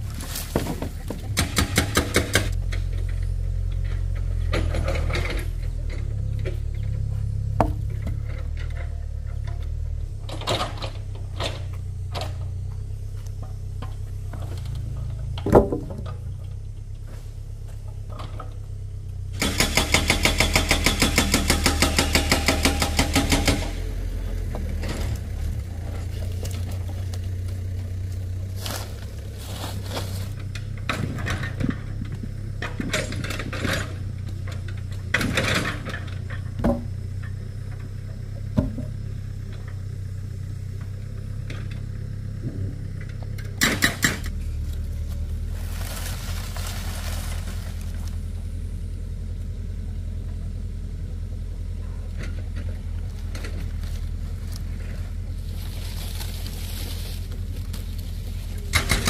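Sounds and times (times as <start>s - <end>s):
small engine idling and revving: 0.0s - 59.0s.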